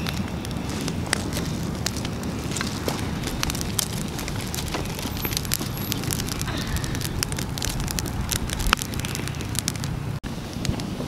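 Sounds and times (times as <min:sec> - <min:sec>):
steady low rumble: 0:00.0 - 0:11.0
wood fire crackling and popping: 0:00.0 - 0:11.0.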